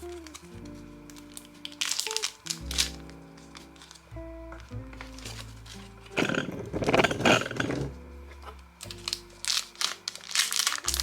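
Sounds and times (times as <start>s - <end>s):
plastic packaging crinkling: 0.0s - 11.0s
soft background music: 0.0s - 11.0s.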